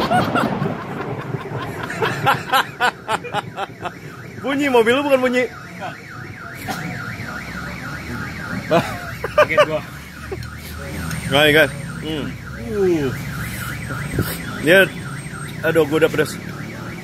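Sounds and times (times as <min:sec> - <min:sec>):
car alarm warbling: 0:01.9 - 0:17.0.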